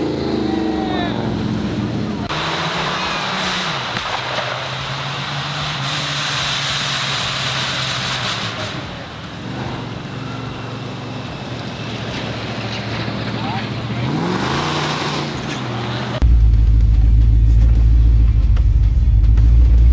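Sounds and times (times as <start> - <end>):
vehicle engine hum: 0.0 - 19.9.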